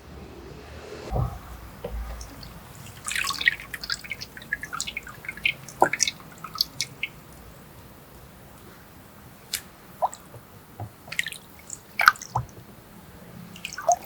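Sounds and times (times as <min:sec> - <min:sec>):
dull plop: 0:01.1 - 0:14.0
liquid dripping and splattering: 0:01.1 - 0:14.0.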